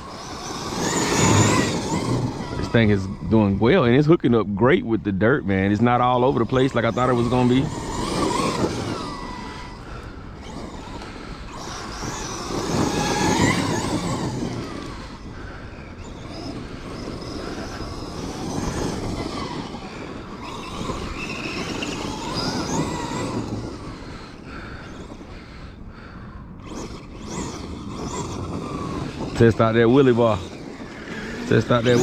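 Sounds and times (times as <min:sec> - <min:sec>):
electric motor whining: 0:00.0 - 0:32.0
tyres on dirt: 0:00.0 - 0:32.0.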